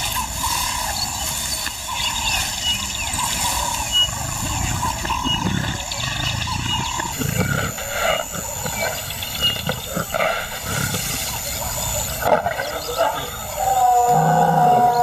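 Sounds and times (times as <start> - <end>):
lion calling: 0.0 - 15.0.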